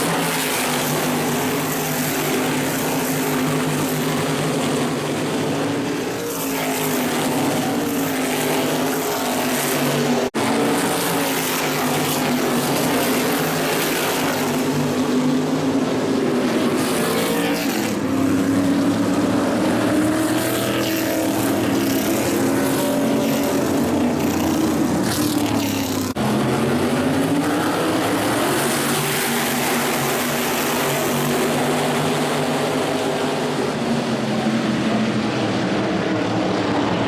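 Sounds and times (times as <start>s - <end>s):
race car engines: 0.0s - 37.0s.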